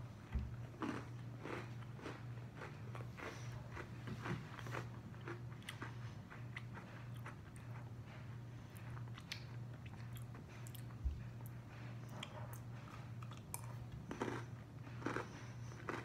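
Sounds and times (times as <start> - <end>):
person chewing crunchy cookie: 0.0 - 16.0
steady low hum: 0.0 - 16.0.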